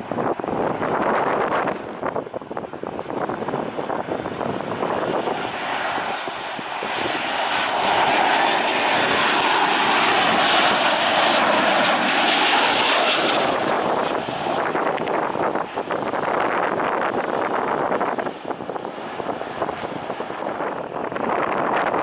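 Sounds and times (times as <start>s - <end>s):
airliner engine passing overhead: 0.0s - 22.0s.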